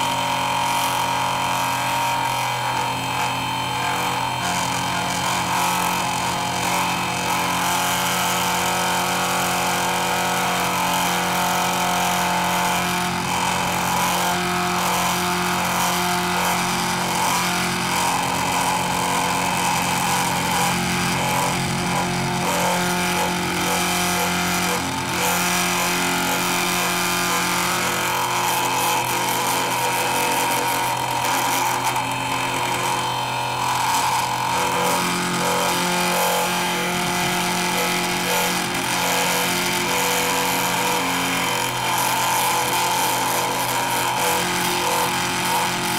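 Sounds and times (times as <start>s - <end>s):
milling cutter cutting metal: 0.0s - 45.9s
milling machine motor hum: 0.0s - 45.9s.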